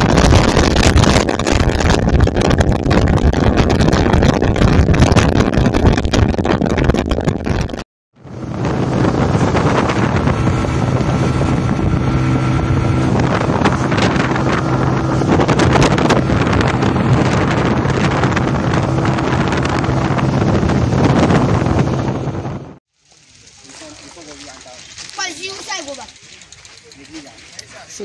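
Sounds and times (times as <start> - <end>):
wind buffeting microphone: 0.0 - 22.8
motorcycle engine running: 0.0 - 28.0.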